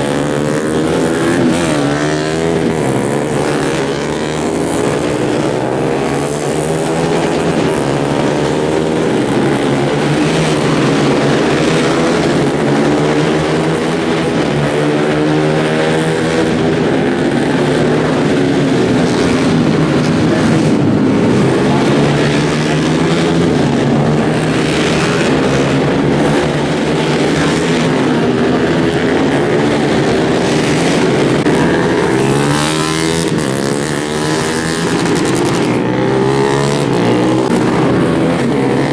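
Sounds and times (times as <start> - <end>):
motorcycles racing and revving: 0.0 - 38.9.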